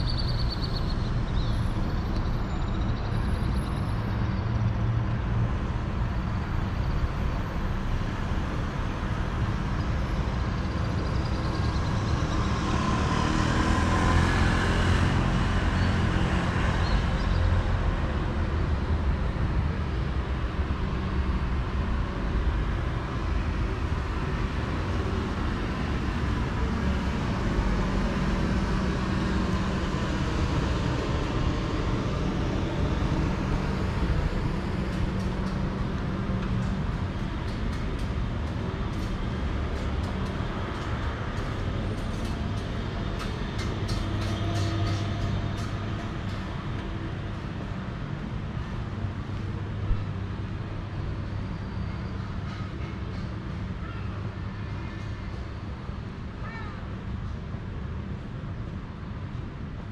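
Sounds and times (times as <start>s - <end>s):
traffic hum: 0.0s - 59.9s.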